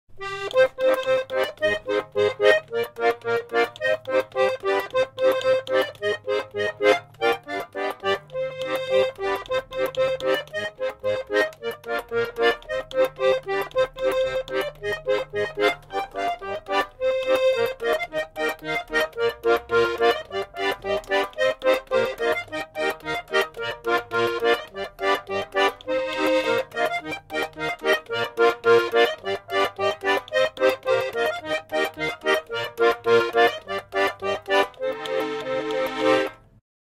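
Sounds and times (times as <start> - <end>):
polka music: 0.1 - 36.6.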